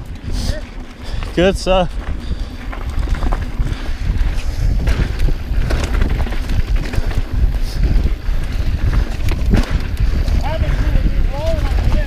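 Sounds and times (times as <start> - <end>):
bike clicks and knocks: 0.0 - 12.0
wind buffeting microphone: 0.0 - 12.0.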